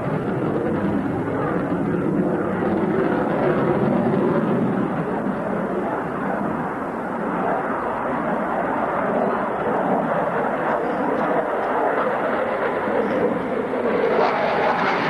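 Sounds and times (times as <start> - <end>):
fighter jet flying overhead: 0.0 - 15.0.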